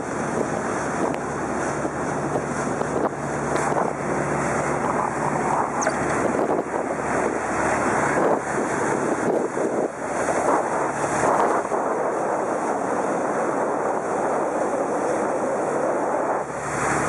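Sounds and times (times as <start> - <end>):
boat engine hum: 0.0 - 17.0
water rushing past hull: 0.0 - 17.0
wind buffeting microphone: 0.0 - 17.0.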